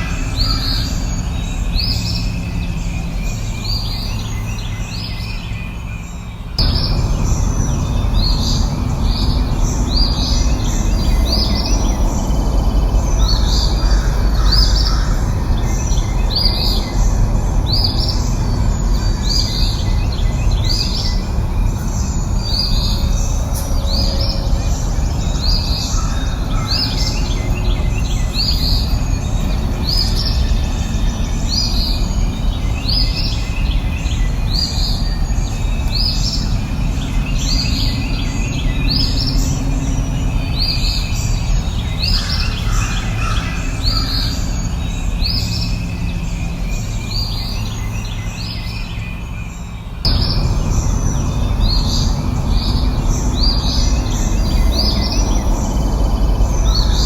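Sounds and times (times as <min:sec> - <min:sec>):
birds singing: 0:00.0 - 0:57.0
low rushing background noise: 0:00.0 - 0:57.0.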